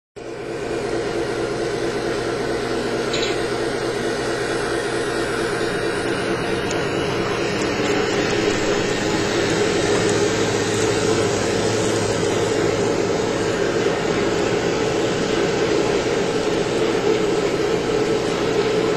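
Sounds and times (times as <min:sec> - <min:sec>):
model train motor hum and rolling: 0:00.2 - 0:18.9.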